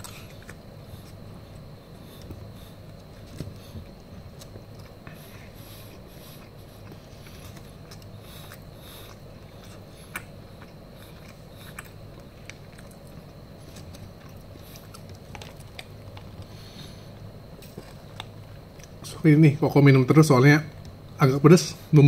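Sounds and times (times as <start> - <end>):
person chewing: 0.0 - 19.0
steady low hum: 0.0 - 22.0.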